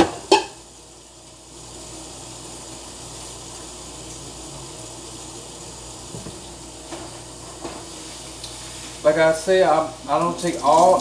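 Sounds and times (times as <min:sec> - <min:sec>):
hot grease hissing: 0:00.0 - 0:11.0.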